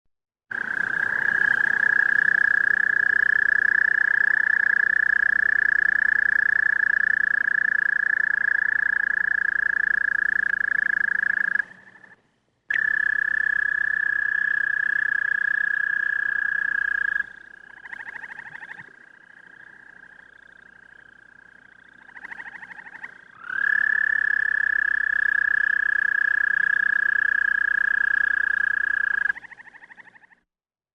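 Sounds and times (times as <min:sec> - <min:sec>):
toad trilling: 0:00.5 - 0:30.4.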